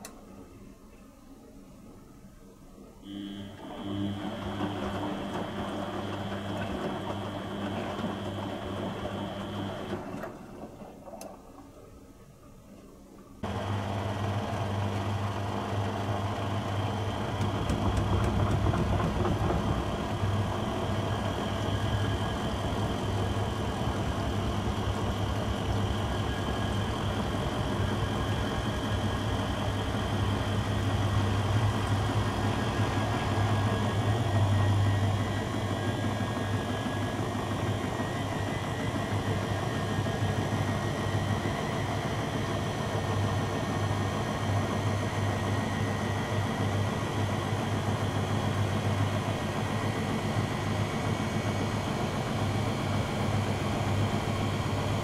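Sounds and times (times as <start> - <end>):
washing machine spinning: 3.1 - 11.8, 13.4 - 55.0.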